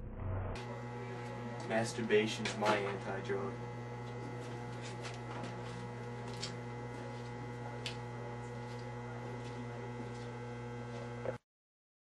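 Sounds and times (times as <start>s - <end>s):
electrical mains hum: 0.5s - 11.4s.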